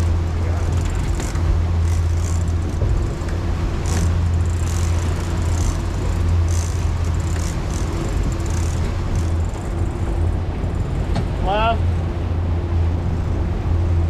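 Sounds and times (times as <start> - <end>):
outboard motors humming: 0.0 - 14.0
water splashing against hull: 0.0 - 14.0.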